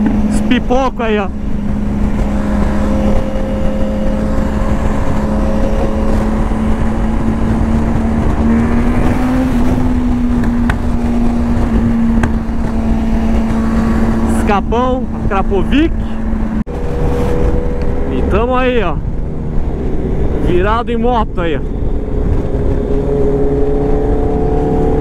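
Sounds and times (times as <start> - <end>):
exhaust popping: 0.0 - 25.0
motorcycle engine drone: 0.0 - 25.0
wind rush on microphone: 0.0 - 25.0.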